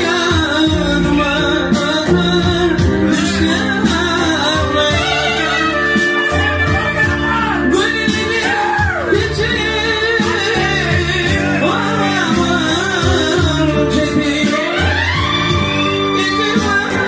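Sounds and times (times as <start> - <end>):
instrumental backing: 0.0 - 17.0.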